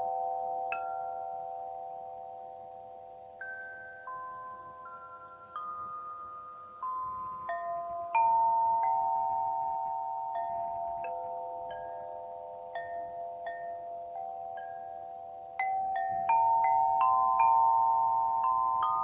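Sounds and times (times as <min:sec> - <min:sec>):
metallophone slow melody: 0:00.0 - 0:19.0.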